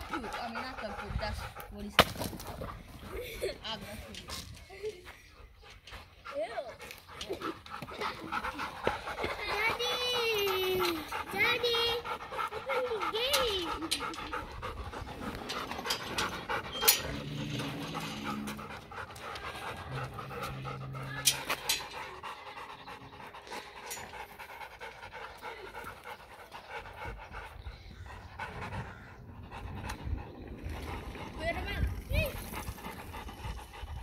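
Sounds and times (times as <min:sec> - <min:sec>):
dog panting: 0:00.0 - 0:34.0.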